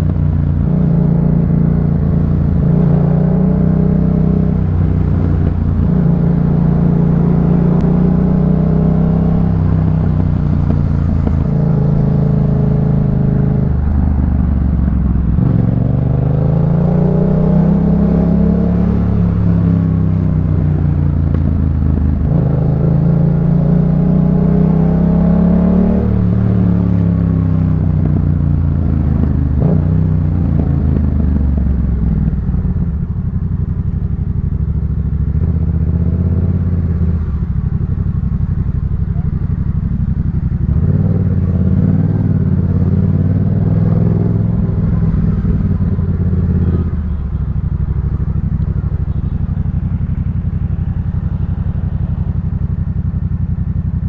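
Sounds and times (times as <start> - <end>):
motorcycle engine being ridden: 0.0 - 54.0.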